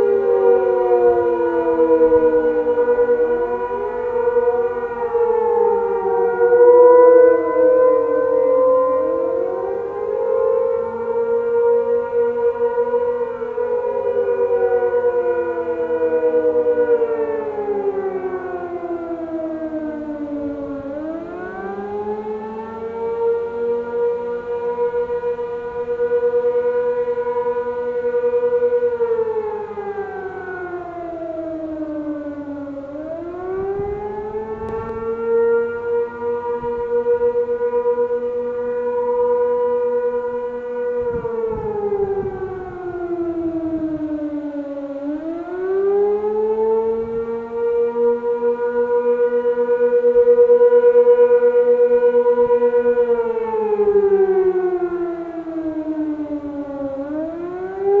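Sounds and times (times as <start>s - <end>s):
fainter lower siren: 0.0s - 58.0s
wavering warning siren: 0.0s - 58.0s.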